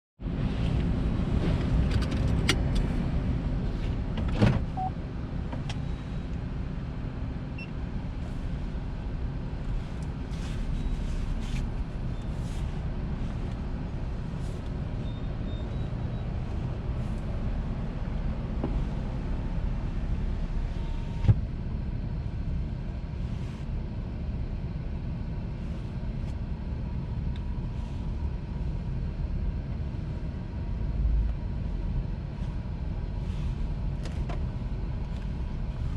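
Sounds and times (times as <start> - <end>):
car engine and road rumble: 0.2 - 35.9.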